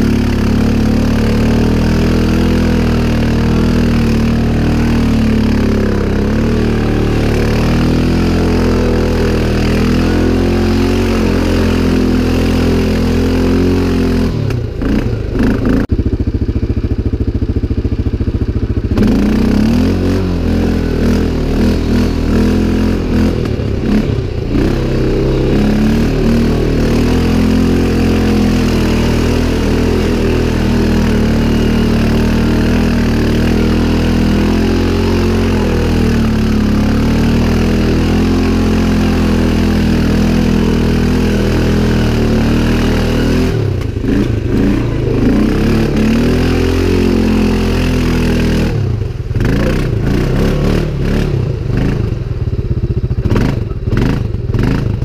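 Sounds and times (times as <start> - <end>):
atv engine running hard: 0.0 - 55.0.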